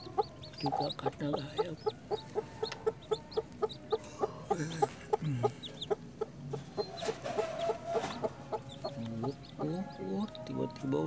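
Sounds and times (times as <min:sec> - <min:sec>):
hen clucking: 0:00.0 - 0:10.8
chicks peeping: 0:00.0 - 0:11.0.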